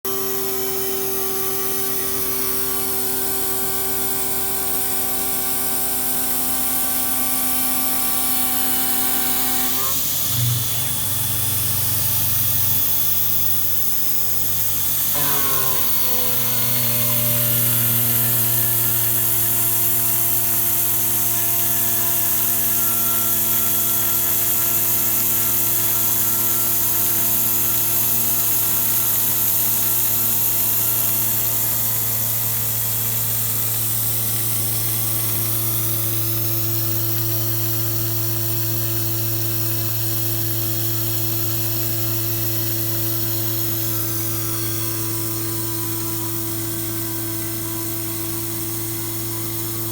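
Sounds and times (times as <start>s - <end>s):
milling machine whine: 0.1s - 38.4s, 39.9s - 49.9s.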